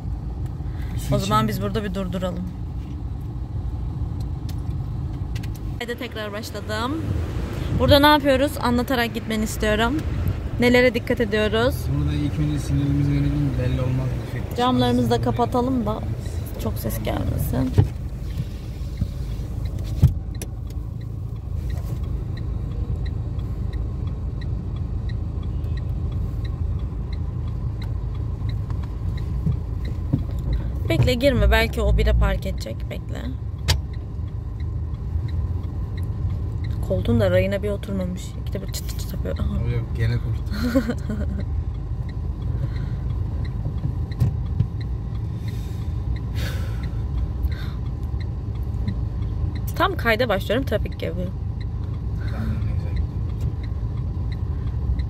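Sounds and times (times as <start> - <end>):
car cabin rumble: 0.0 - 55.0
engine and road hum: 0.0 - 55.0
turn signal ticking: 0.0 - 55.0.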